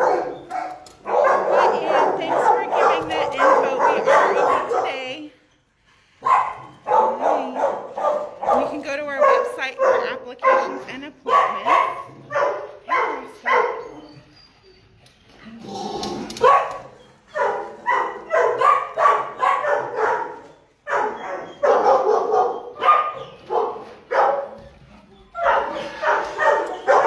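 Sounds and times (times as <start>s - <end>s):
dog barking: 0.0s - 5.2s, 6.2s - 13.9s, 16.4s - 24.6s, 25.4s - 27.0s.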